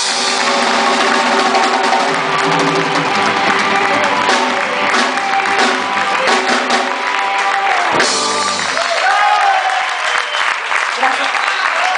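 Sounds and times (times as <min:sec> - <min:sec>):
live band playing: 0:00.0 - 0:11.9.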